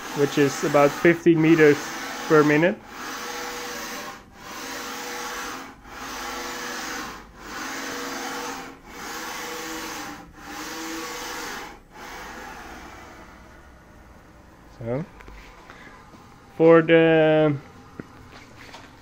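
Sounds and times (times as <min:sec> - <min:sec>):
machine table whirring whine: 0:00.0 - 0:19.0.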